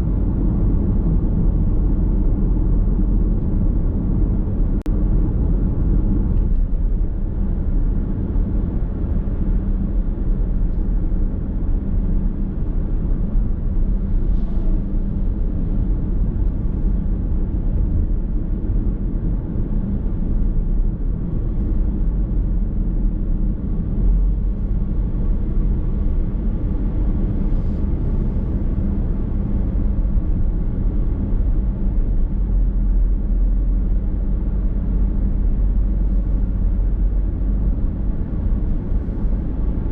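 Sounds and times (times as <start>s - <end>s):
low engine hum: 0.0s - 39.9s
road and tyre noise: 0.0s - 39.9s.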